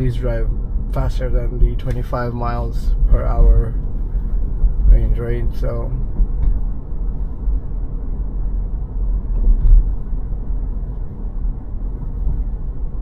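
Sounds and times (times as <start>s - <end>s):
road and tyre rumble in car cabin: 0.0s - 13.0s.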